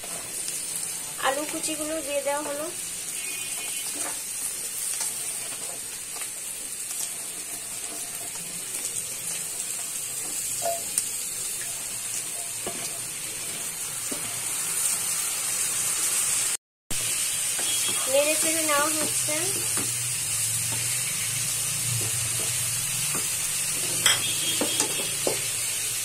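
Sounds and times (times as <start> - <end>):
potatoes sizzling in hot oil: 0.0 - 26.0.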